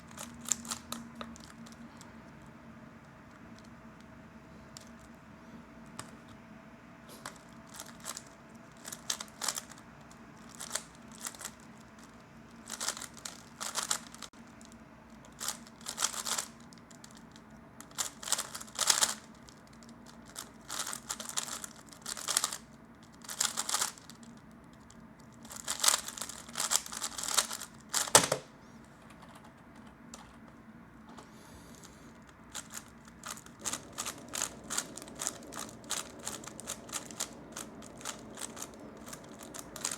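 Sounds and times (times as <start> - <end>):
puzzle cube plastic clicking: 0.0 - 4.1, 7.2 - 14.3, 15.2 - 28.4, 31.7 - 39.9.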